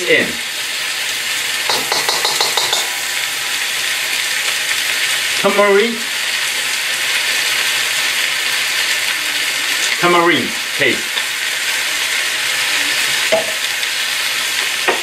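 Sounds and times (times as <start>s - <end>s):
food sizzling in wok: 0.0s - 15.0s.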